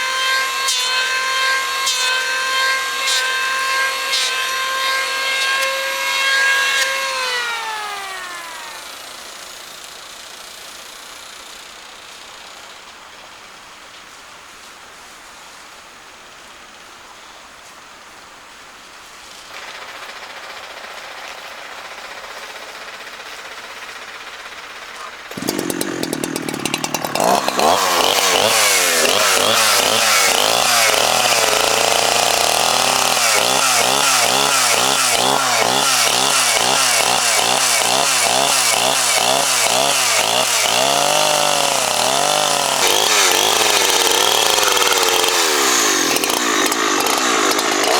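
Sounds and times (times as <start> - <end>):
chainsaw starting and revving: 0.0 - 12.2, 19.5 - 47.9.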